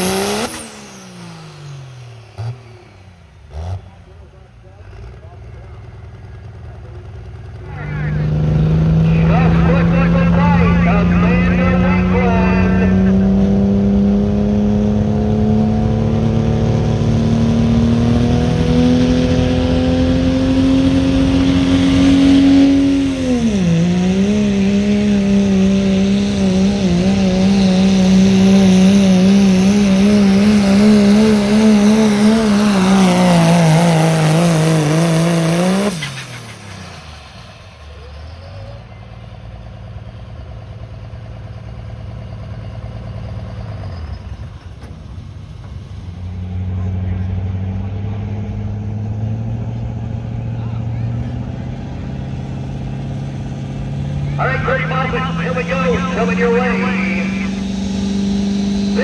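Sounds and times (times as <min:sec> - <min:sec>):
diesel engine at full throttle: 0:00.0 - 0:59.0.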